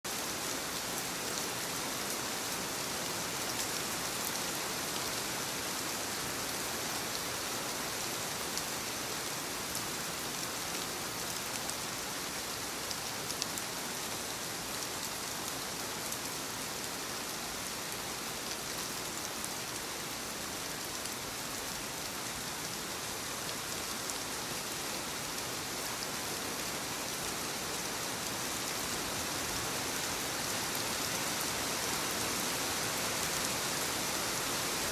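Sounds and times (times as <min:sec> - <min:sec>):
soft rain falling on leaves: 0:00.0 - 0:34.9.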